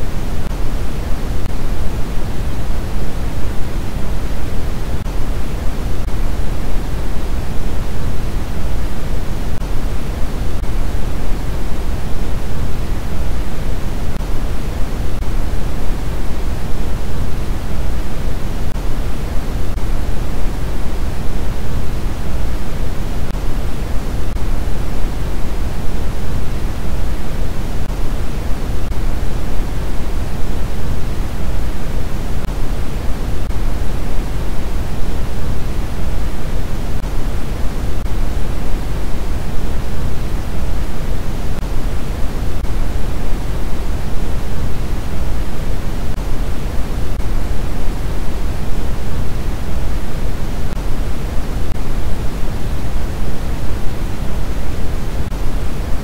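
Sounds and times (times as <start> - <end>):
steady rushing noise hiss: 0.0 - 56.0.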